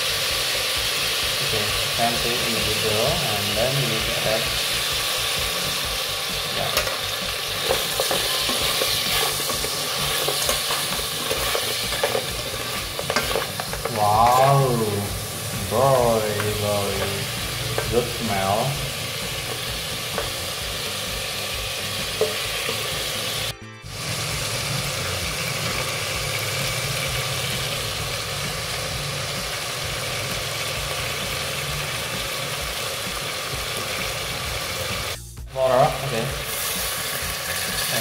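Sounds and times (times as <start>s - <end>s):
meat sizzling in a pot: 0.0s - 38.0s.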